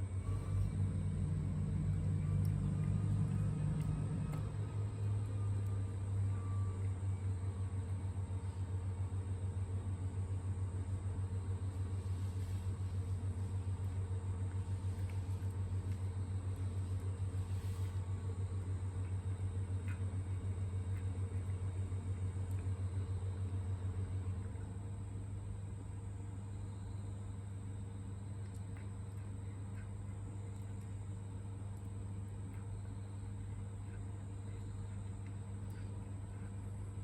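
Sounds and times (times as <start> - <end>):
pulsing mechanical hum: 0.0 - 37.0.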